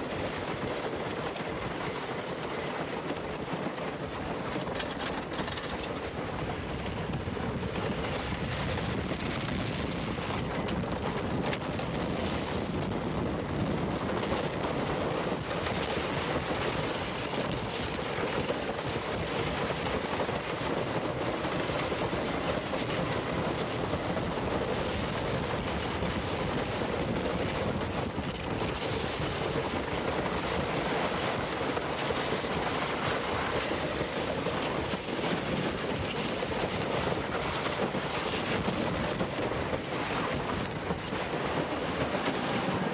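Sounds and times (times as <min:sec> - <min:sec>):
roller coaster wheels rumbling: 0:00.0 - 0:42.9
wind on microphone: 0:00.0 - 0:42.9.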